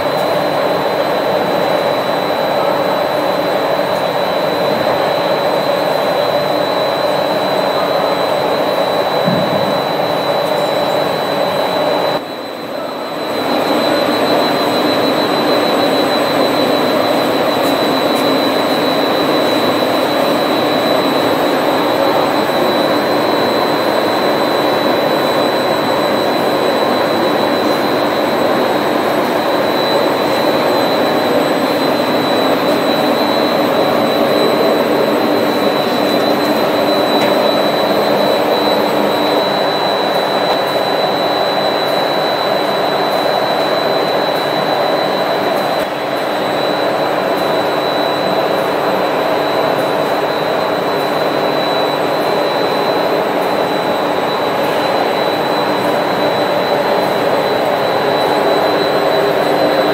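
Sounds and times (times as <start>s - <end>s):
high thin machine whine: 0.0s - 59.9s
loud steady machine noise: 0.0s - 59.9s.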